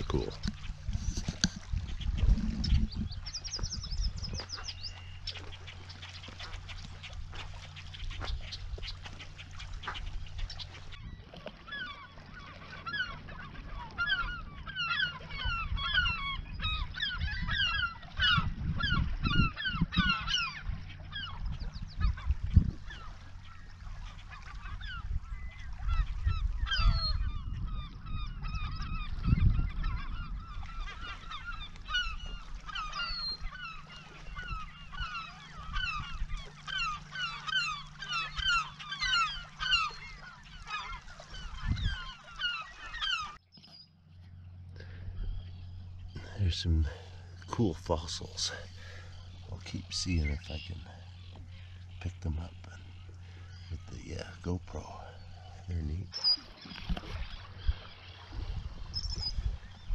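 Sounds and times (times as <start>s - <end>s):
low wind rumble: 0.0s - 11.3s, 13.6s - 59.9s
gulls calling: 0.0s - 59.9s.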